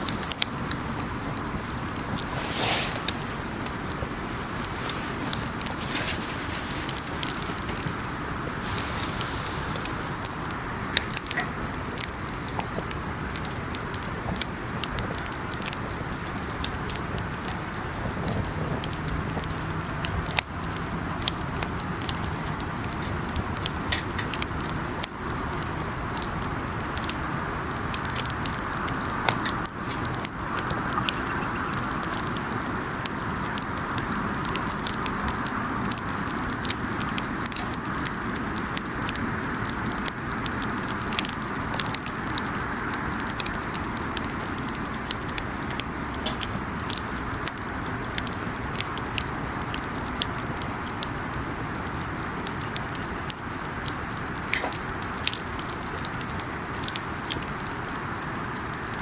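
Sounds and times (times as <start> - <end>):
campfire crackling: 0.0 - 59.0
sharp pops and snaps: 0.0 - 59.0.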